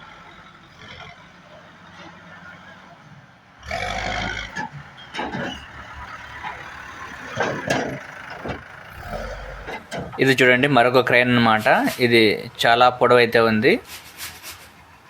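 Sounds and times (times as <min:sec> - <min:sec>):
construction vehicle engine rumbling: 0:00.0 - 0:15.0.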